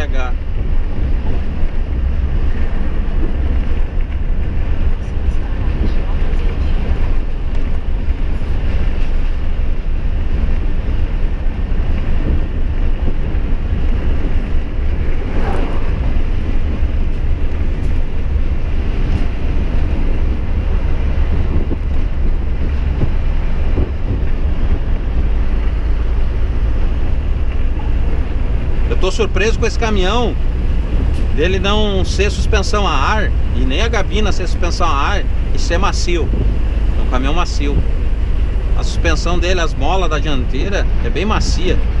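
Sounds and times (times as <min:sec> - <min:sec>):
truck engine and road rumble: 0:00.0 - 0:42.0.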